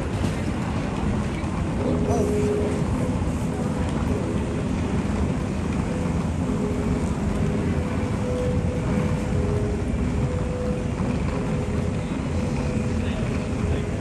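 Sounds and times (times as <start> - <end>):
traffic rumble: 0.0 - 14.0
faint humming tones: 1.3 - 14.0.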